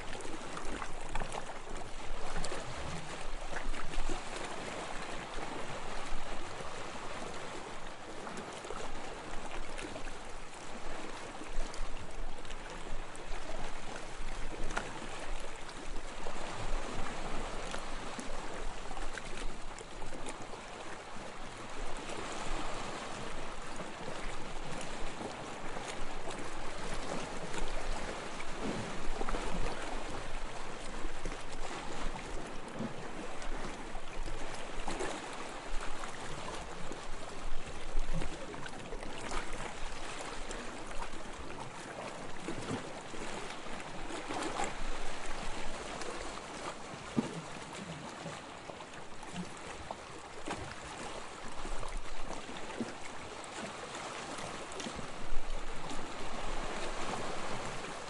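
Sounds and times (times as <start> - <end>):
sea water lapping: 0.0 - 58.0.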